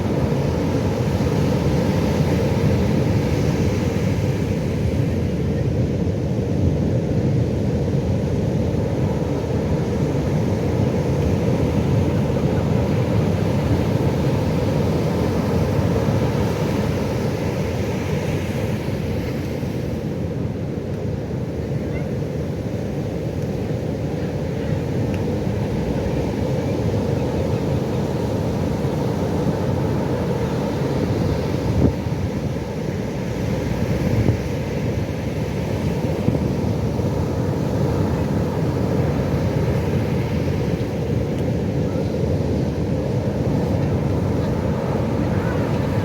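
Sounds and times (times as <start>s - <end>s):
breaking ocean waves: 0.0s - 46.0s.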